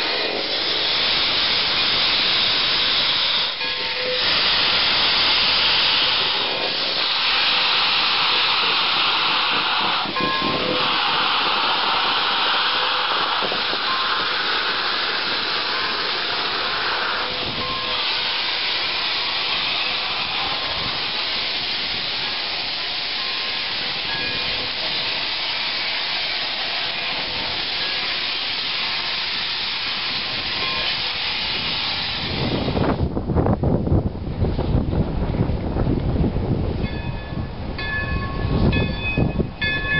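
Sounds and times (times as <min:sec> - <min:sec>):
deep train rumble: 0:00.0 - 0:39.9
steam locomotive venting steam: 0:00.0 - 0:39.9.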